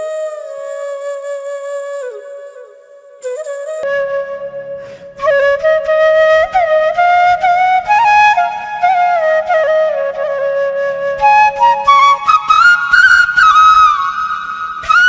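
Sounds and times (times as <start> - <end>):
flute playing slow melody: 0.0 - 15.0.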